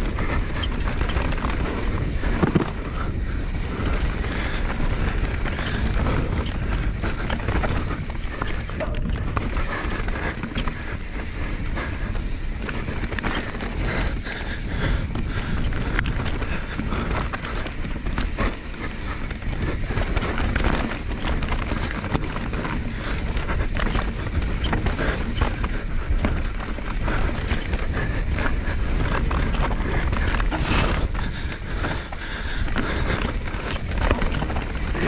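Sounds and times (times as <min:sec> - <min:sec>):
bike rattling and knocking: 0:00.0 - 0:35.0
bike tyres rolling over dirt and rock: 0:00.0 - 0:35.0
wind rushing over microphone: 0:00.0 - 0:35.0.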